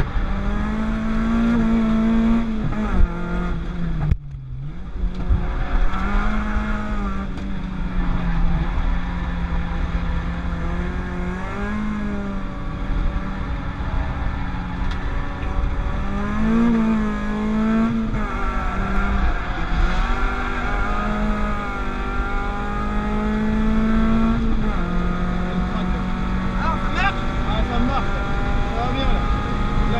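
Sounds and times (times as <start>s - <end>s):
car engine revving: 0.0s - 29.9s
road and wind noise: 0.0s - 29.9s.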